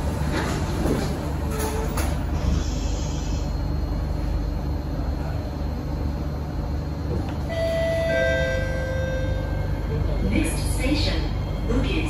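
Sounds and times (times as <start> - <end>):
train rumble inside car: 0.0 - 12.0.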